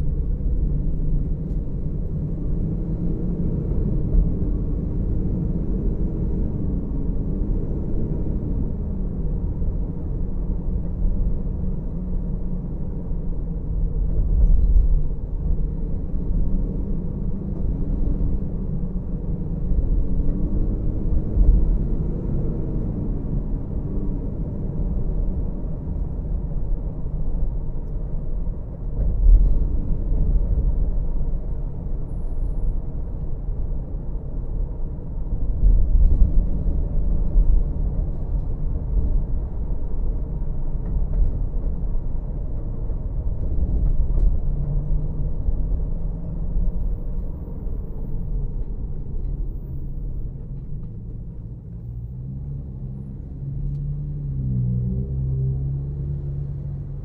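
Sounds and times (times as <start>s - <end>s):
car driving slowly rumble: 0.0s - 57.0s.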